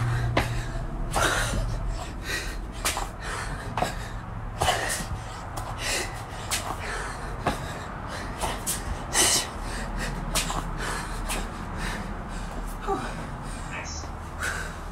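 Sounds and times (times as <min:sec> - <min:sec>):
woman breathing hard: 0:00.0 - 0:14.9.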